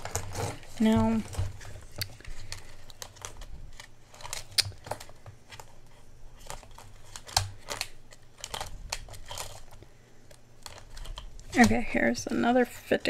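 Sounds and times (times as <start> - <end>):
paper bills rustling: 0.0 - 12.4.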